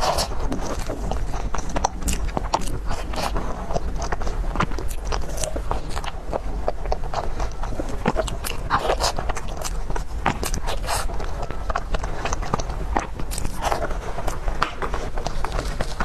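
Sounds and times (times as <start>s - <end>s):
crunchy chewing: 0.0s - 16.0s
steady low hum: 0.0s - 16.0s.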